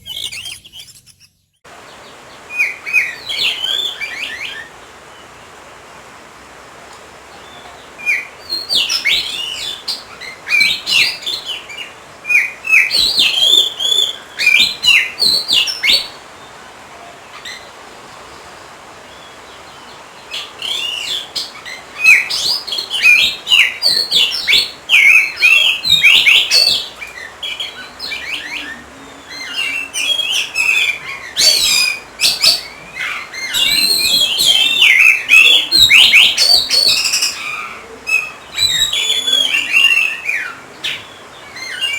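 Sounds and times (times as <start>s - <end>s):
bird singing whistles and chirps: 0.0s - 4.7s, 7.4s - 16.1s, 20.3s - 41.9s.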